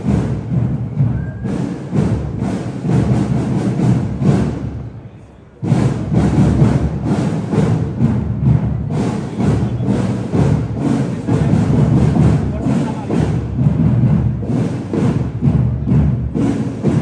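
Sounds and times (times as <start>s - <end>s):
parade drums beating: 0.0s - 17.0s.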